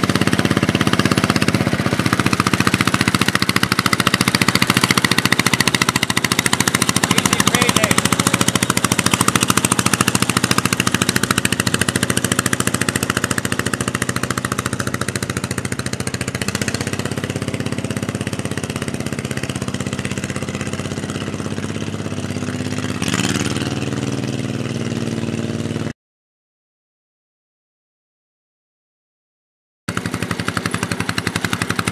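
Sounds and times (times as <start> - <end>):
garden tractor engine running: 0.0 - 25.9, 29.9 - 31.9.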